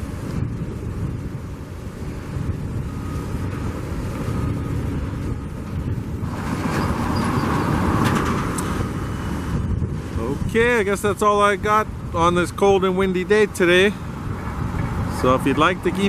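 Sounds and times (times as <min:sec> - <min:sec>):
road traffic rumble: 0:00.0 - 0:16.0
wind buffeting microphone: 0:00.0 - 0:16.0.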